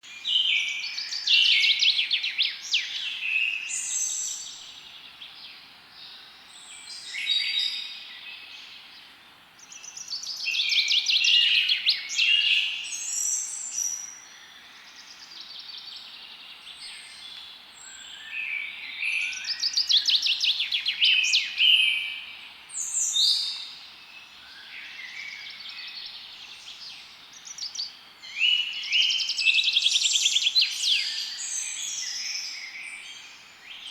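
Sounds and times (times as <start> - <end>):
faint steady hiss: 0.0 - 33.9
songbirds singing and chirping: 0.0 - 33.9.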